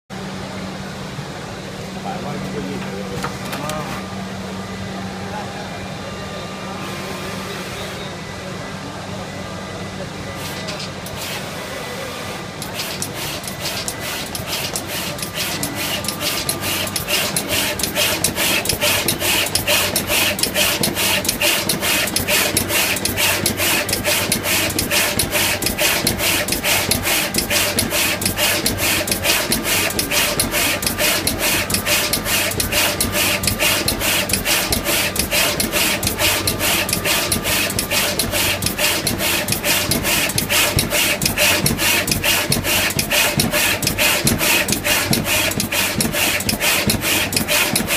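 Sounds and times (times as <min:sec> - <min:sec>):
steady machine hum: 0:00.1 - 0:47.9.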